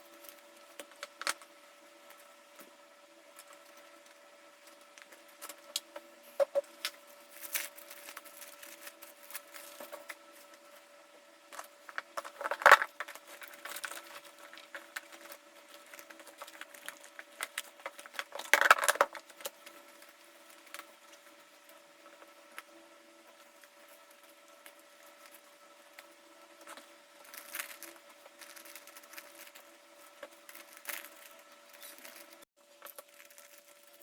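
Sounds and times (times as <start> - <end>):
faint steady hum: 0.0 - 34.0
packing materials crinkling: 3.4 - 10.7, 11.5 - 22.7, 23.3 - 34.0.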